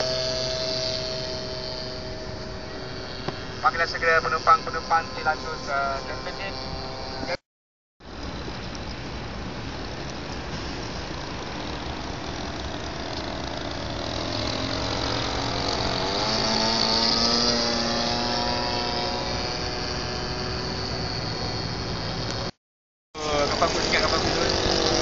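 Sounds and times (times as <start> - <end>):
model plane engine flying past: 0.0 - 7.4, 10.8 - 22.5, 23.2 - 25.0.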